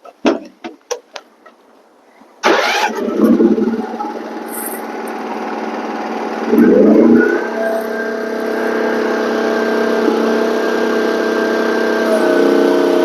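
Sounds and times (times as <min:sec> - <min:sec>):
excavator engine starting and running: 0:02.4 - 0:13.0.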